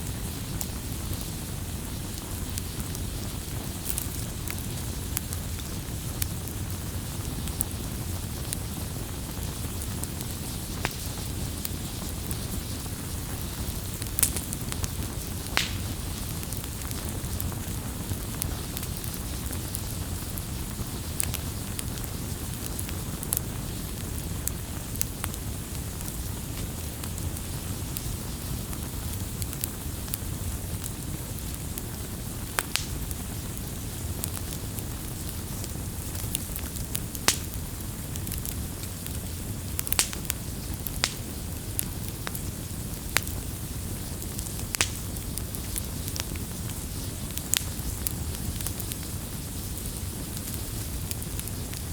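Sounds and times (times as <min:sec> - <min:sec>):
campfire flames rushing: 0:00.0 - 0:51.9
fire crackling and popping: 0:00.0 - 0:51.9.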